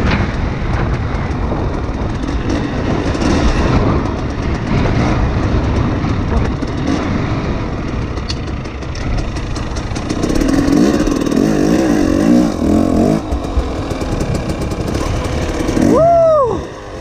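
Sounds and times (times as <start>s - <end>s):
dirt bike engine revving: 0.0s - 17.0s
wind rumble on microphone: 0.0s - 17.0s.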